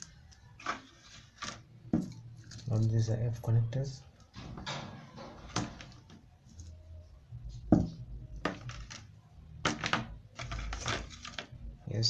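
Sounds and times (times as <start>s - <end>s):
metal connectors rustling: 0.0s - 2.9s, 4.0s - 11.6s.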